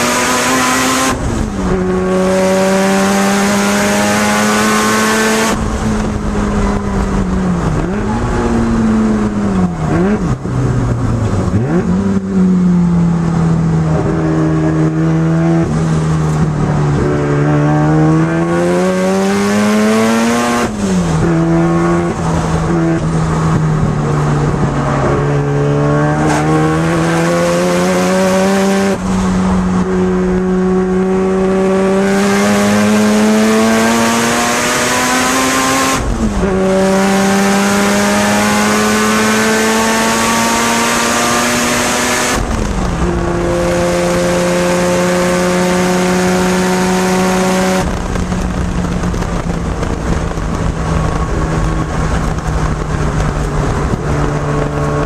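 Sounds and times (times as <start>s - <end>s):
rotary engine accelerating: 0.0s - 55.0s
gear changes: 0.2s - 55.0s.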